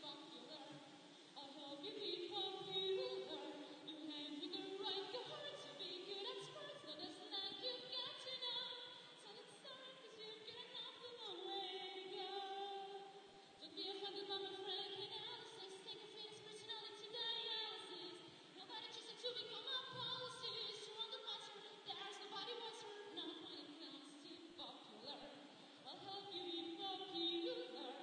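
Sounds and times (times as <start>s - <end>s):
woman singing with vibrato: 0.0s - 28.0s.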